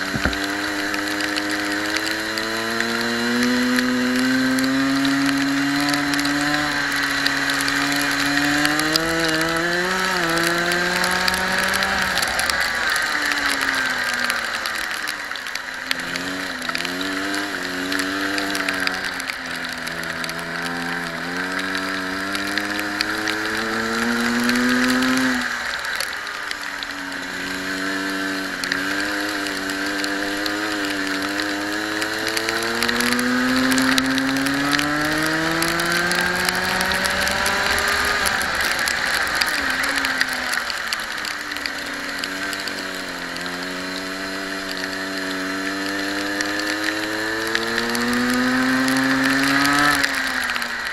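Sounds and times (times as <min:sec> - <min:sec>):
kart engine accelerating: 0:00.0 - 0:50.9.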